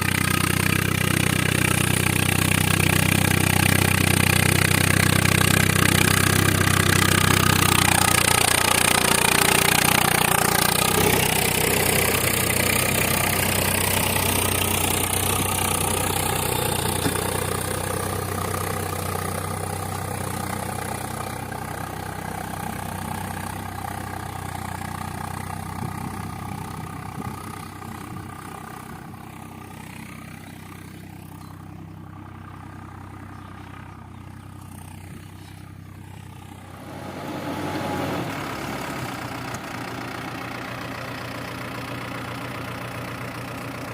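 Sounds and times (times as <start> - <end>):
diesel engine of heavy machinery: 0.0 - 43.9.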